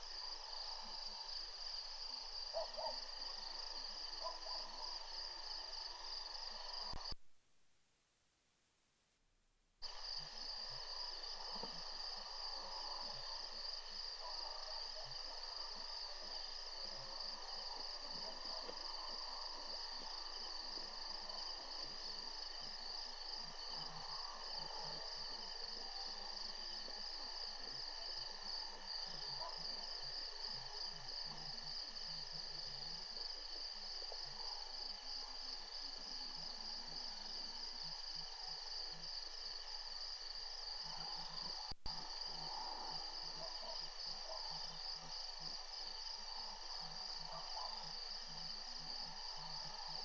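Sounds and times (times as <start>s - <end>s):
faint insect trills: 9.8s - 50.0s.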